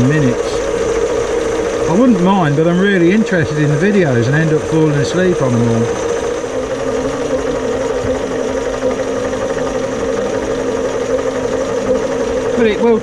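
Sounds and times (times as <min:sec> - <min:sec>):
lathe motor humming: 0:00.0 - 0:13.0.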